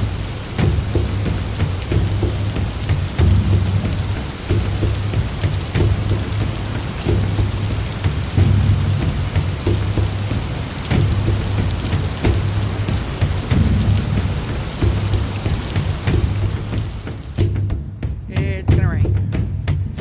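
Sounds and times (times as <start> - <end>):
low rumble: 0.0 - 17.4
heavy rain pouring: 0.0 - 17.7.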